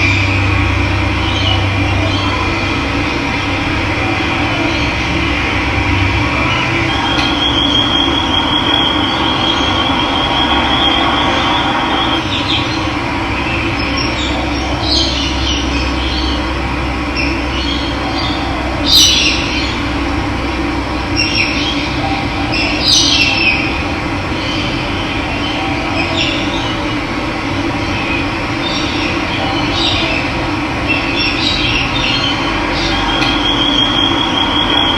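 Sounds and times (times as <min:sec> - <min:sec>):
birds chirping and trilling: 0:00.0 - 0:20.2, 0:20.9 - 0:34.9.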